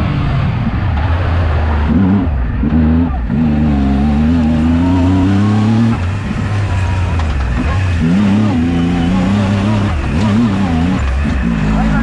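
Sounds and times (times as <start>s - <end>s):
engine revving under hard throttle: 0.0s - 12.0s.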